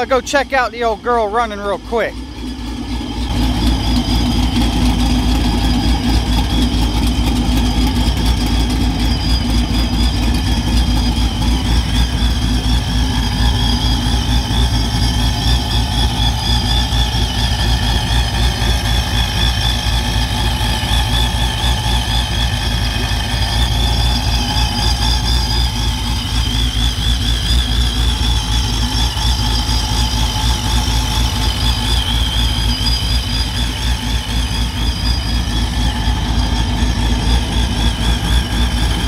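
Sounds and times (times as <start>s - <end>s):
truck engine idling with whine: 0.0s - 39.0s.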